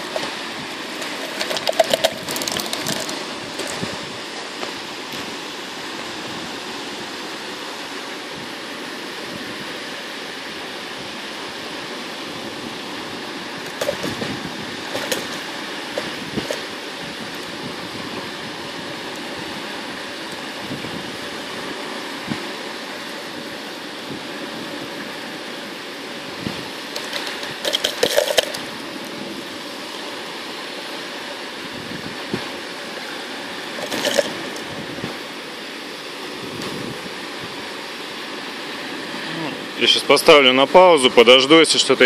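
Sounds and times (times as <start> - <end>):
steady rushing noise: 0.0 - 42.0.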